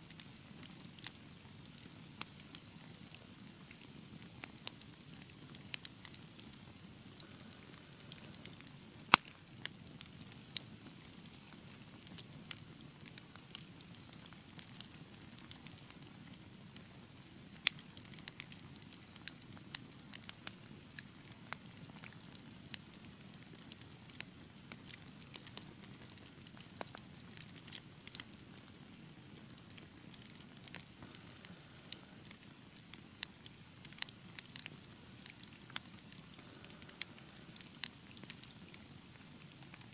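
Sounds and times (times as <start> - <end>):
wood fire crackling and popping: 0.0 - 39.9
low hiss of fire: 0.1 - 39.9.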